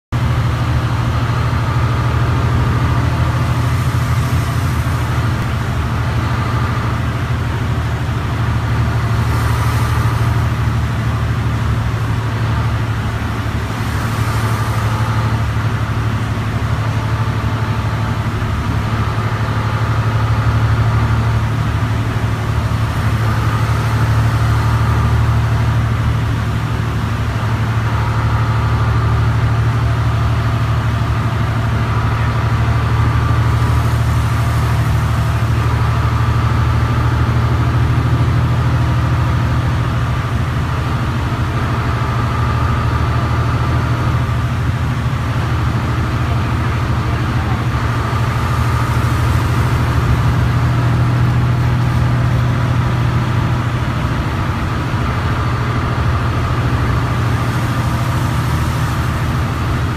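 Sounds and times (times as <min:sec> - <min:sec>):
bus engine drone: 0:00.0 - 0:59.9
tyre noise on wet road: 0:00.1 - 0:59.9.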